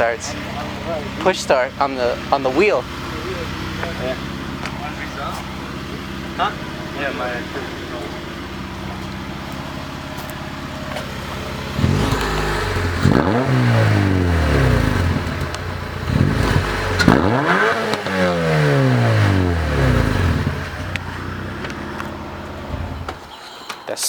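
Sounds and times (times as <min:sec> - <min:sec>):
car engine idling and revving: 0:00.0 - 0:23.3.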